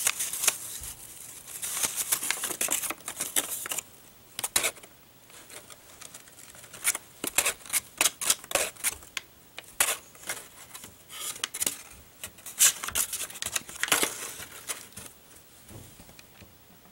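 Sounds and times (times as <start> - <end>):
paper crinkling and rustling: 0.0 - 16.2.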